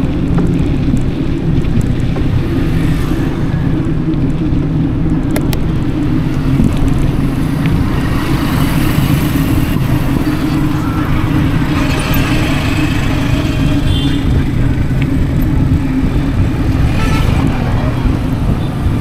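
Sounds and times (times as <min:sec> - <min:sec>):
bicycle rolling noise: 0:00.0 - 0:19.0
wind rush while cycling: 0:00.0 - 0:19.0.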